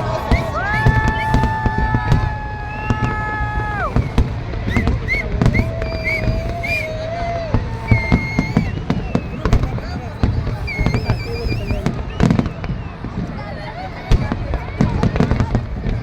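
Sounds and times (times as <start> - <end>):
fireworks bangs: 0.0 - 16.0
short rising-and-falling whistles: 0.1 - 13.0.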